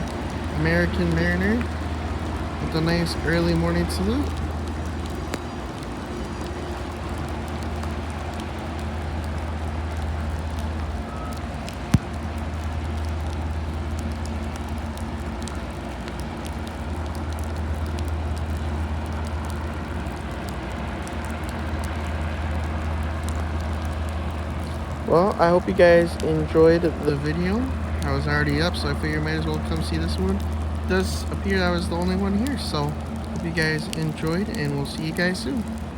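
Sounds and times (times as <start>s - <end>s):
low ship engine rumble: 0.0s - 35.9s
steady rain falling: 0.0s - 35.9s.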